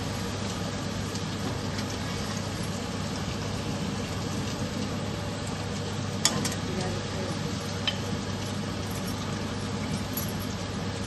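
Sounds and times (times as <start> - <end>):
food sizzling in hot oil: 0.0 - 11.0
steady low hum: 0.0 - 11.0.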